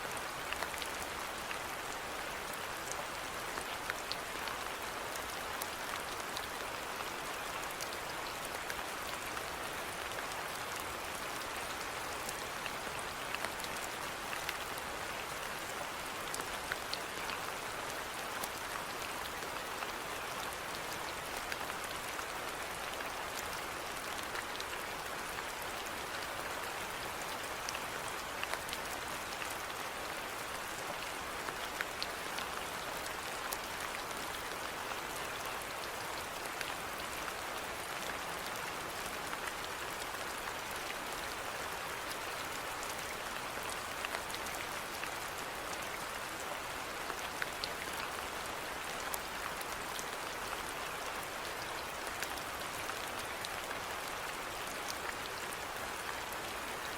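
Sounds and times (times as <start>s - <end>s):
steady rainfall: 0.0s - 56.9s
raindrops ticking on a surface: 0.1s - 56.8s.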